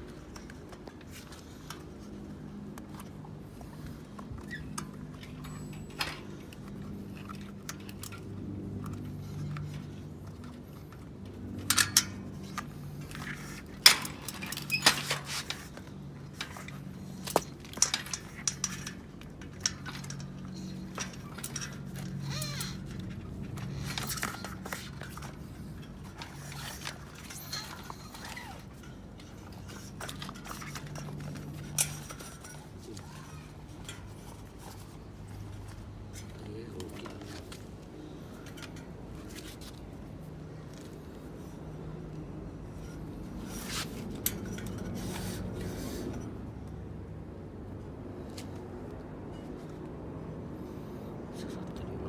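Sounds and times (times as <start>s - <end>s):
hand tools clinking and scraping: 0.0s - 46.4s.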